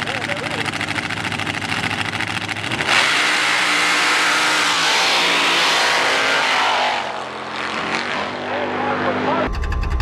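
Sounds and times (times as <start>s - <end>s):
racing engine at full throttle: 0.0s - 10.0s.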